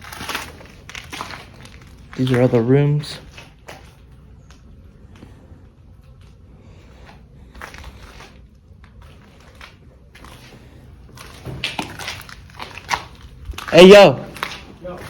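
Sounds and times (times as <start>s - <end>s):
footsteps crunching over debris: 0.0s - 15.0s.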